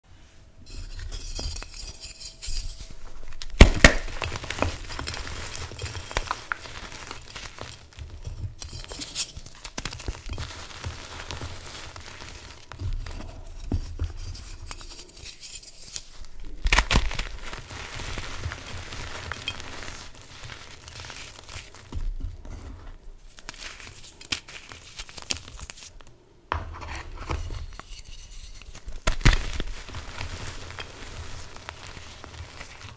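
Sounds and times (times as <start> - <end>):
chalk crunching and crumbling: 0.7 - 26.2, 26.8 - 32.9.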